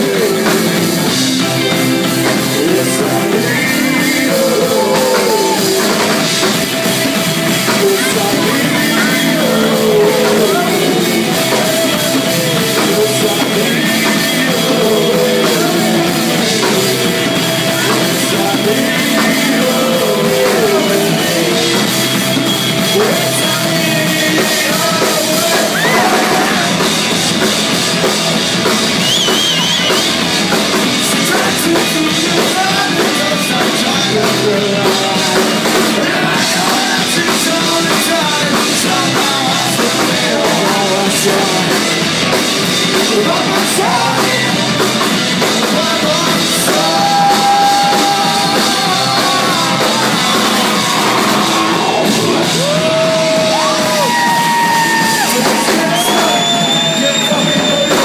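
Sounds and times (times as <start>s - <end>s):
person singing lead vocal: 0.0s - 27.4s, 29.0s - 58.0s
drum kit: 0.0s - 58.0s
electric guitars: 0.0s - 58.0s.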